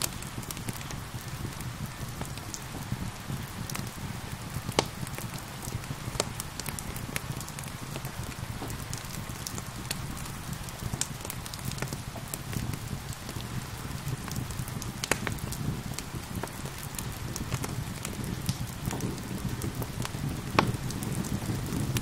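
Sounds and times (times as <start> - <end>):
gentle rain hiss: 0.0 - 22.0
wood fire crackling: 0.0 - 22.0.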